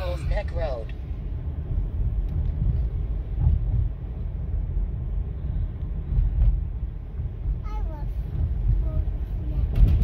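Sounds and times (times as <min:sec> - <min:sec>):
car interior rumble: 0:00.0 - 0:10.0.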